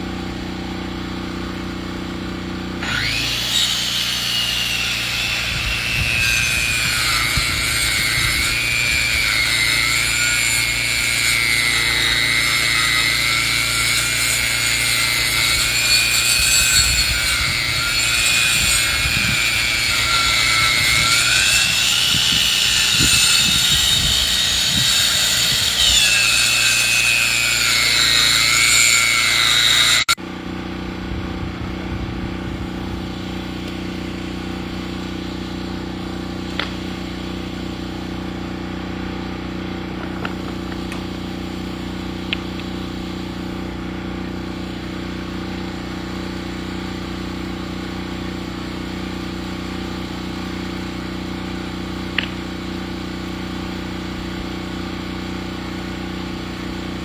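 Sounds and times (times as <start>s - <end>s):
powered saw cutting wood: 0.0s - 30.2s, 32.6s - 57.0s.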